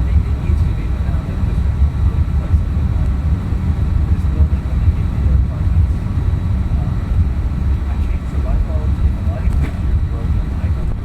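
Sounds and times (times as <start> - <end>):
airplane engines and airflow in cabin: 0.0 - 11.0.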